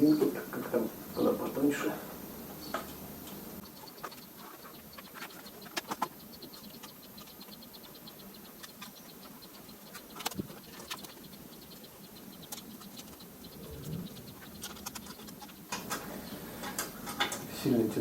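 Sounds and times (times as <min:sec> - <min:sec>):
faint fast ticking: 0:00.9 - 0:17.7.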